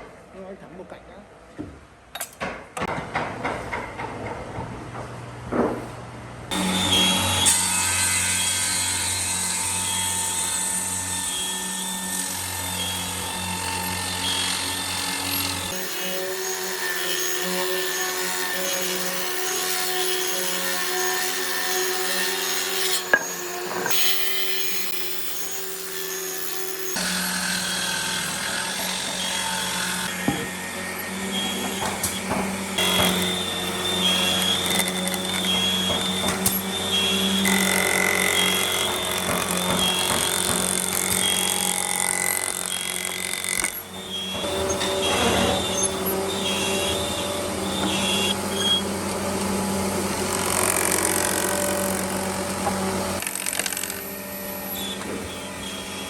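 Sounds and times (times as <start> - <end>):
power tools cutting wood: 6.5 - 56.0.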